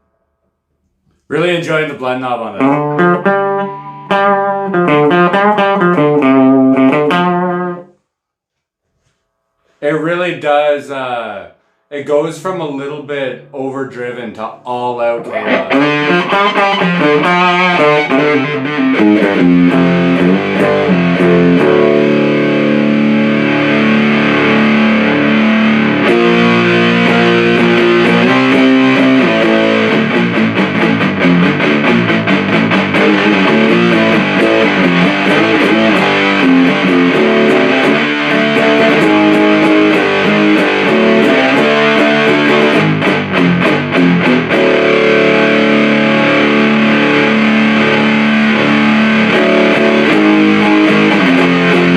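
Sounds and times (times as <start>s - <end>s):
fuzz-distorted electric guitar: 2.6s - 7.9s, 15.1s - 51.9s.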